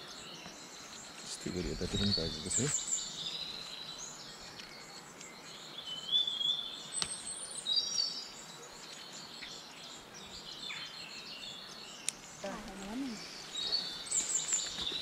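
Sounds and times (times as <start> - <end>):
birds chirping and singing: 0.0 - 15.0
outdoor background noise: 0.0 - 15.0.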